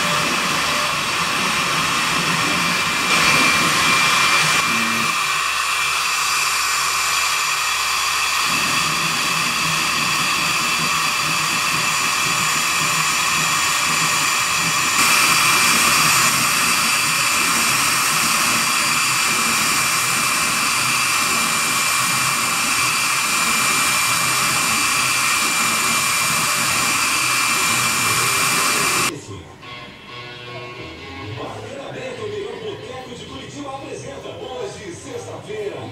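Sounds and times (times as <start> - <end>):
bit cutting wood hiss: 0.0 - 29.1
cnc router spindle whine: 0.0 - 29.1.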